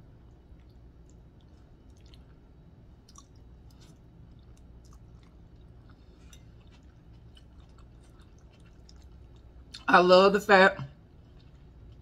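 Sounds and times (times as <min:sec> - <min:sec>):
steady low hum: 0:00.0 - 0:12.0
chewing: 0:00.2 - 0:09.9, 0:11.0 - 0:12.0.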